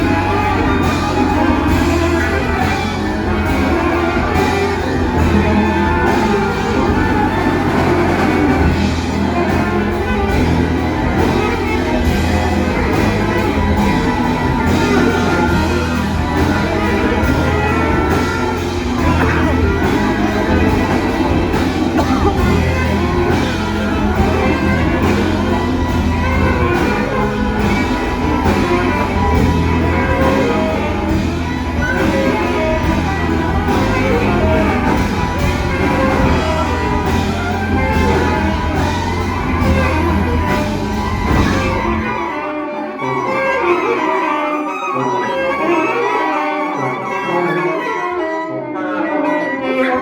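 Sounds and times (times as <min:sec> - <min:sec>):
heavy low bass: 0:00.0 - 0:42.2.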